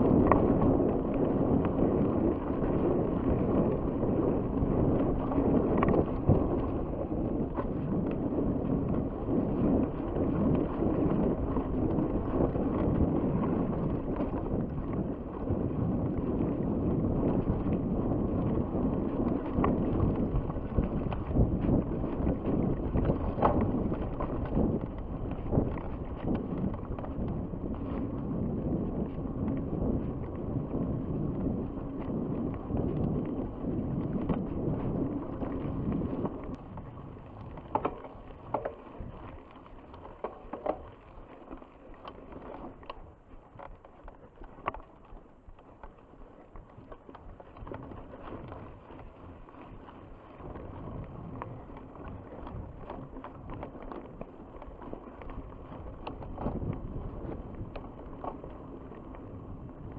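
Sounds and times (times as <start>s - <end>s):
bike rattling over bumps: 0.0s - 59.9s
bike tyres rushing on trail: 0.0s - 59.9s.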